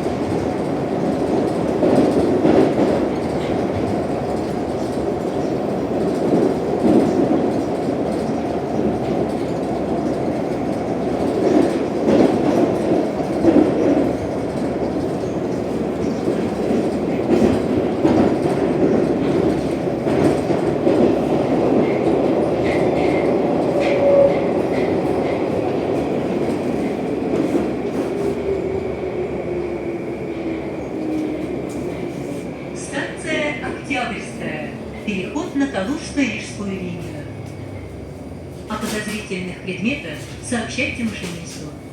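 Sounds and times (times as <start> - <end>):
train rumble in tunnel: 0.0 - 41.9.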